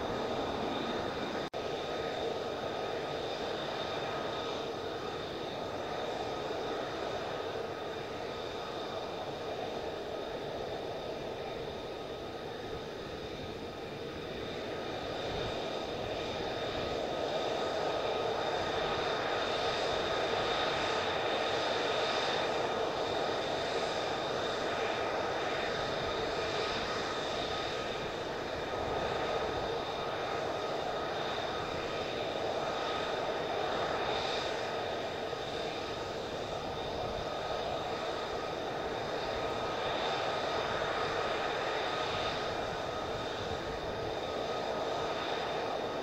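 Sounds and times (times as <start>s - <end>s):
jet engine whine: 0.0s - 46.0s.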